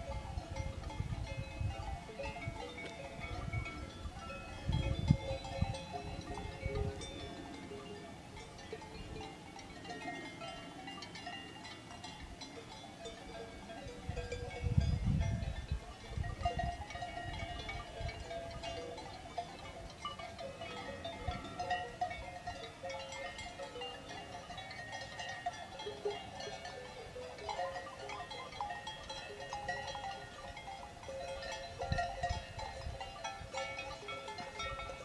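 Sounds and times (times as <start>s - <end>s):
cowbells clanking: 0.0s - 35.0s.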